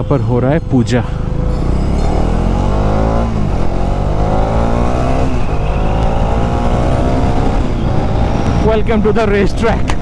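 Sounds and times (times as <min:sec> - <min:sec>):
motorcycle engine accelerating: 0:01.2 - 0:10.0.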